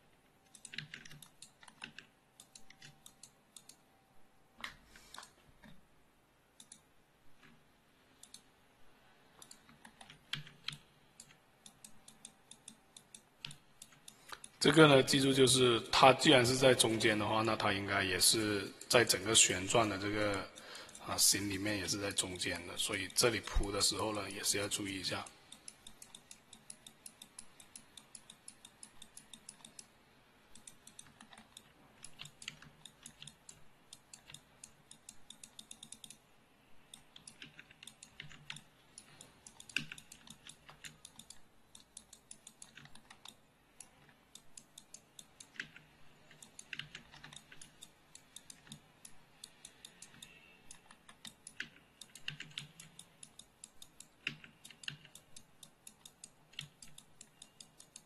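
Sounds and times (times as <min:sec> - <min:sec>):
computer keyboard and mouse clicking: 0:00.4 - 0:03.9, 0:04.6 - 0:05.9, 0:06.5 - 0:08.5, 0:09.2 - 0:15.6, 0:16.2 - 0:58.0.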